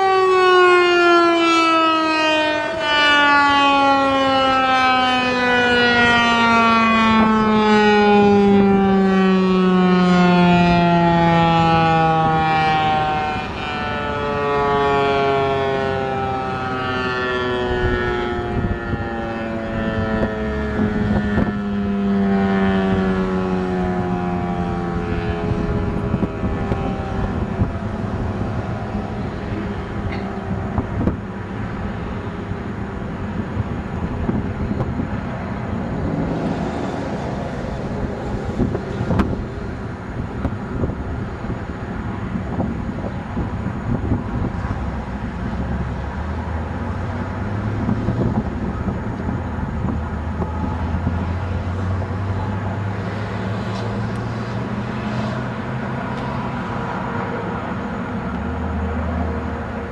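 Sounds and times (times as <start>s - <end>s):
traffic: 0.0s - 59.9s
warning siren tone sliding down: 0.0s - 59.9s
wind on microphone: 8.1s - 56.6s.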